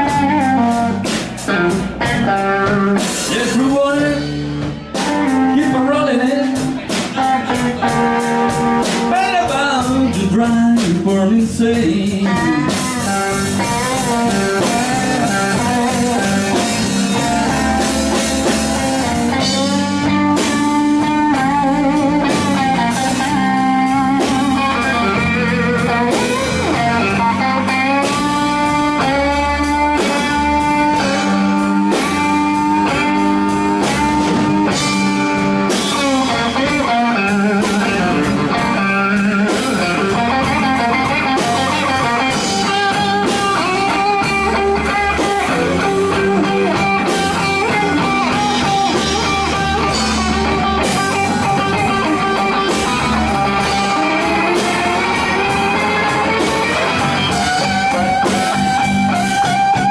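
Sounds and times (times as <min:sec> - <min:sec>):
bass guitar: 0:00.0 - 0:59.9
drums: 0:00.0 - 0:59.9
electric guitar solo: 0:00.0 - 0:59.9.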